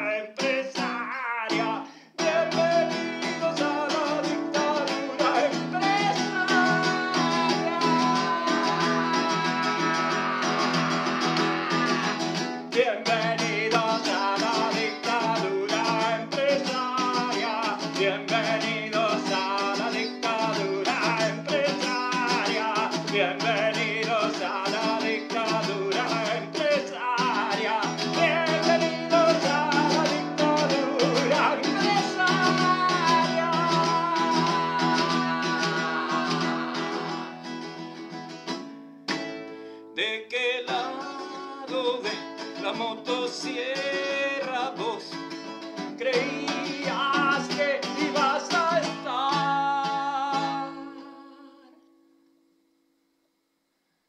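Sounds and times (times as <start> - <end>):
person singing: 0.0 - 38.2, 40.0 - 51.9
guitar plucking and strumming: 0.0 - 52.3.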